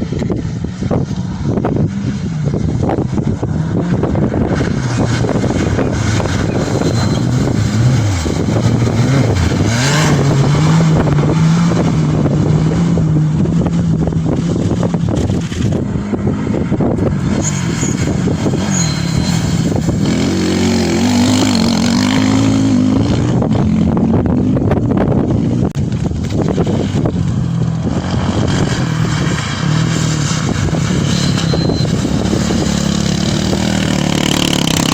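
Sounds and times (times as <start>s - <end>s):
higher engine note rising and falling: 0.0s - 34.9s
rally vehicle engines running hard: 0.0s - 34.9s.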